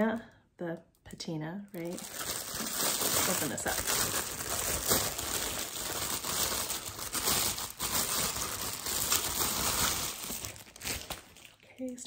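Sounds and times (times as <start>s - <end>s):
plastic bag crinkling: 1.7s - 12.0s.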